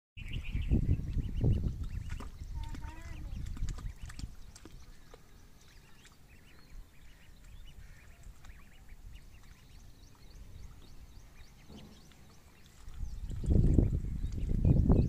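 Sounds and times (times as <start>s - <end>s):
ducklings peeping: 0.2s - 15.0s.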